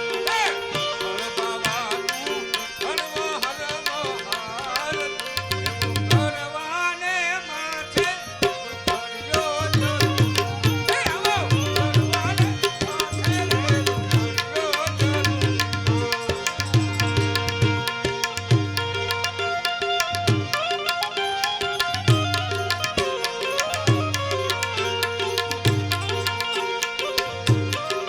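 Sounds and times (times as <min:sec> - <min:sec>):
tabla drumming: 0:00.0 - 0:06.6, 0:07.9 - 0:28.0
wavering melody: 0:00.0 - 0:28.0.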